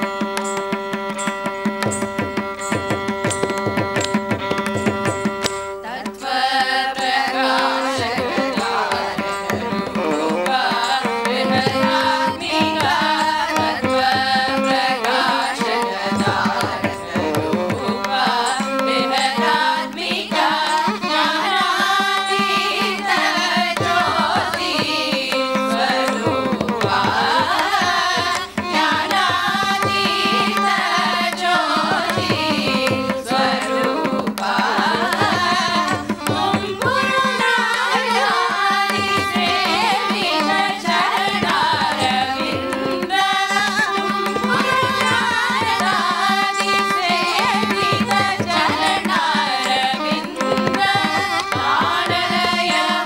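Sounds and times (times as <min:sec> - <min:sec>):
hand drum strokes: 0:00.0 - 0:53.0
women singing together: 0:01.4 - 0:53.0.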